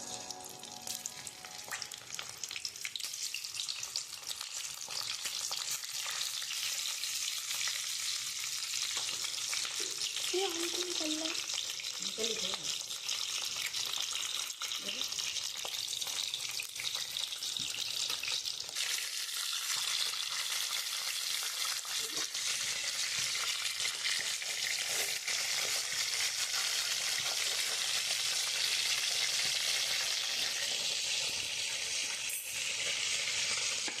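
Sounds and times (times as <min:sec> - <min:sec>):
peppers sizzling in oil: 0:00.0 - 0:34.0.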